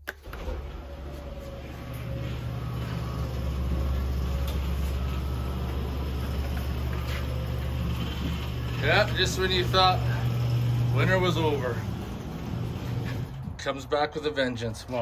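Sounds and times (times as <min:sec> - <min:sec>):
garage door motor hum: 0:00.2 - 0:13.6.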